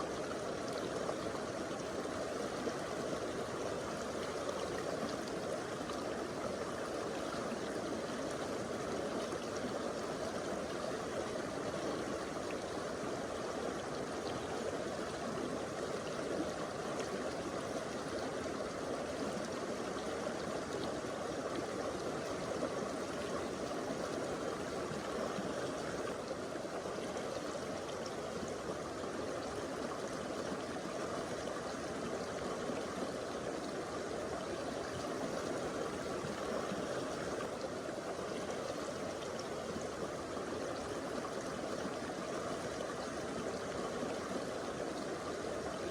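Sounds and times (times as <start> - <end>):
stream flowing over rocks: 0.0 - 45.9.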